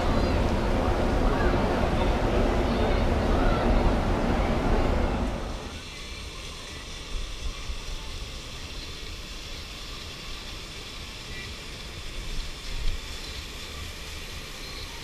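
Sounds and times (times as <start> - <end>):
low rumble with faint hiss: 0.0 - 14.6.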